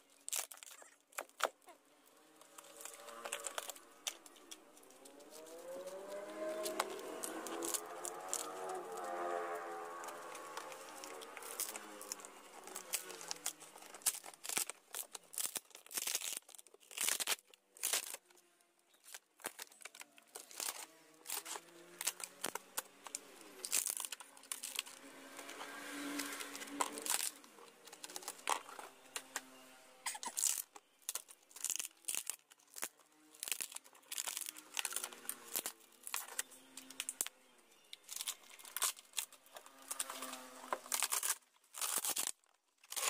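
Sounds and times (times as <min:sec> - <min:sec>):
sheet material tearing and crumpling: 0:00.1 - 0:37.3, 0:38.0 - 0:43.0.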